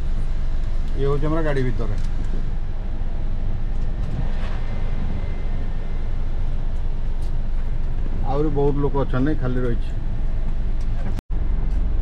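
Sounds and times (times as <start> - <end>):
coach engine rumble from inside: 0.0 - 12.0.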